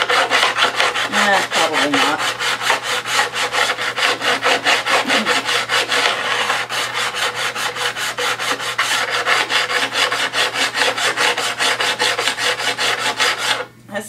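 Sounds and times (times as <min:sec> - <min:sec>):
sharpening paddle rasping on steel: 0:00.0 - 0:13.7.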